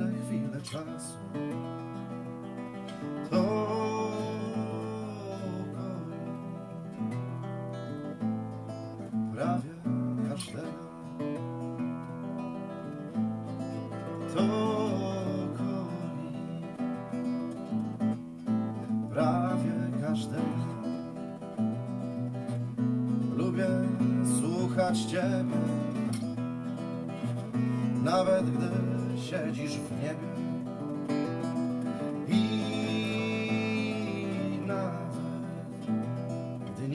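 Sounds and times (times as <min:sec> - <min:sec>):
acoustic guitar: 0:00.0 - 0:36.9.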